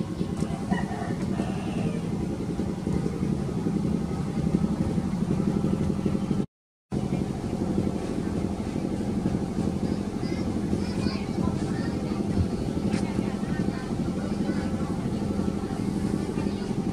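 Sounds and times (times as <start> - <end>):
engine running: 0.0 - 16.9.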